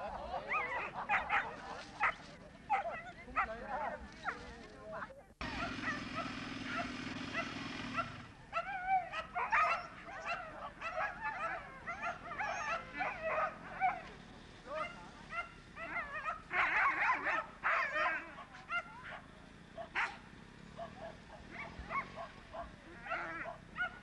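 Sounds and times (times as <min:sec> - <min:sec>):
dogs whining and yipping: 0:00.0 - 0:04.4, 0:05.4 - 0:20.2, 0:20.8 - 0:24.0.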